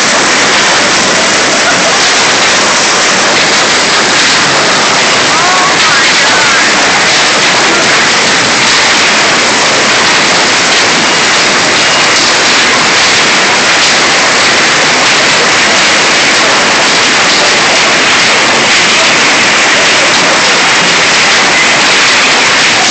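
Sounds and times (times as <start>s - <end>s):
hail and heavy rain pelting: 0.0s - 22.9s.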